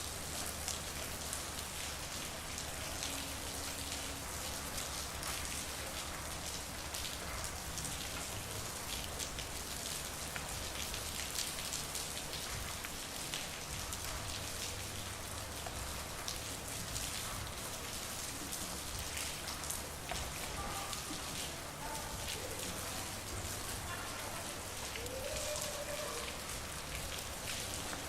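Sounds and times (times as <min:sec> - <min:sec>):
close raindrops: 0:00.0 - 0:28.0
rain hissing on a street: 0:00.0 - 0:28.0.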